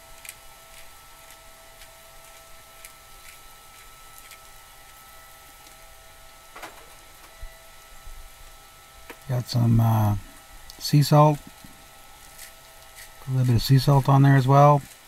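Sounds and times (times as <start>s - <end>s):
electric blower fan running: 0.0s - 15.0s
steaks sizzling: 0.0s - 15.0s.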